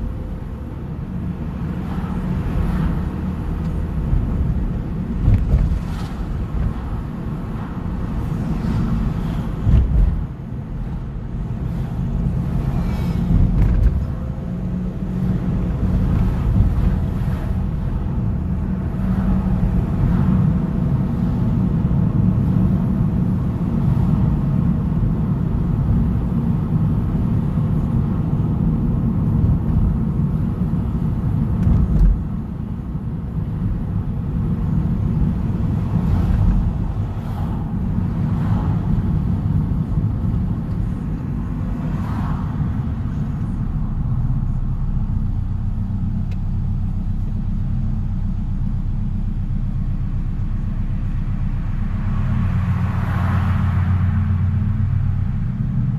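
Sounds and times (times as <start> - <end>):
car exhaust and road rumble: 0.0 - 55.9.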